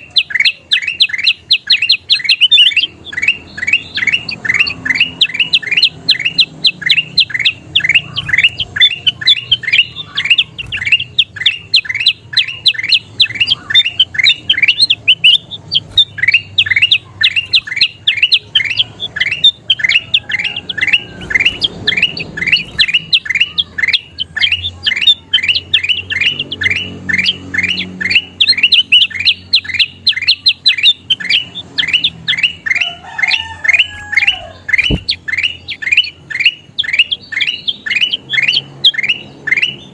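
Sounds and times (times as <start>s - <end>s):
bulbul singing sweeping chirps: 0.0s - 39.9s.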